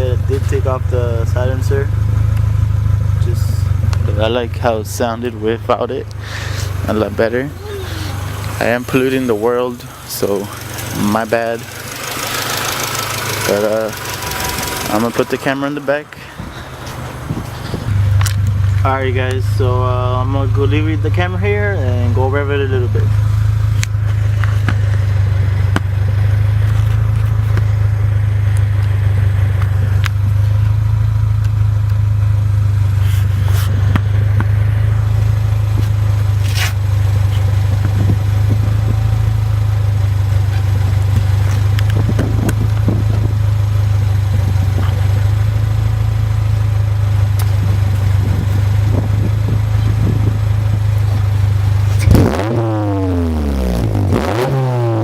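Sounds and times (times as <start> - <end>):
loud car engine exhaust idling: 0.0 - 55.0.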